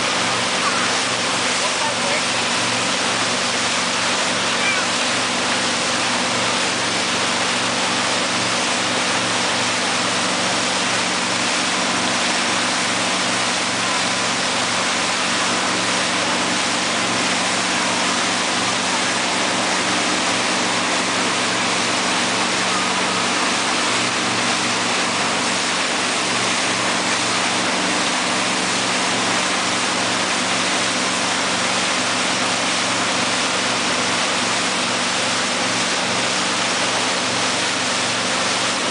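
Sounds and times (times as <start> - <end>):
boat engine humming: 0.0 - 38.9
churning wake water: 0.0 - 38.9
wind: 0.0 - 38.9.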